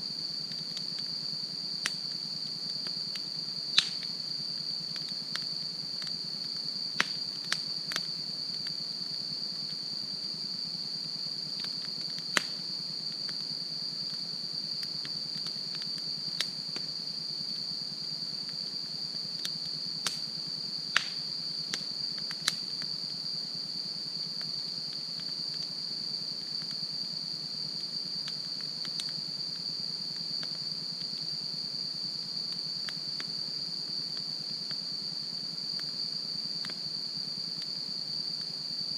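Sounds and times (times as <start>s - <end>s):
insect trill: 0.0s - 38.9s
campfire crackling: 0.2s - 17.6s, 18.2s - 23.4s, 24.0s - 27.0s, 27.6s - 31.2s, 32.5s - 36.8s.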